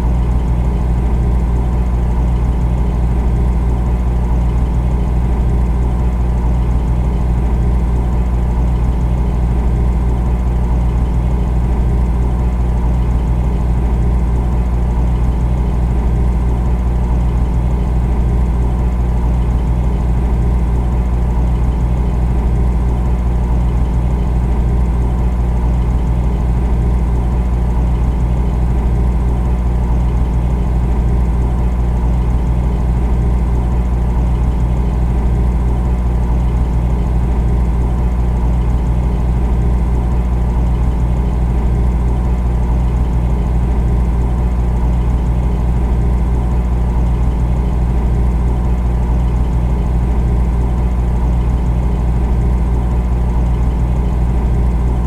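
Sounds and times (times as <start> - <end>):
refrigerator compressor hum: 0.0 - 55.0.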